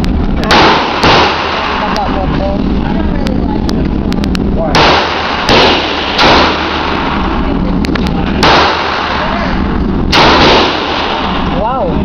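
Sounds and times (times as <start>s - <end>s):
steady background noise: 0.0s - 12.0s
gunshots with echoing tail: 0.1s - 2.8s, 4.6s - 11.9s.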